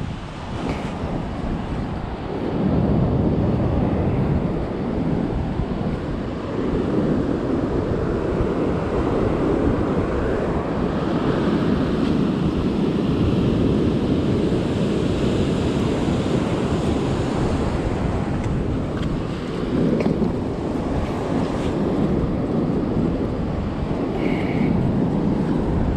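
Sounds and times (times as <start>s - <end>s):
ocean surf washing up beach: 0.0s - 25.9s
wind buffeting microphone: 0.0s - 25.9s.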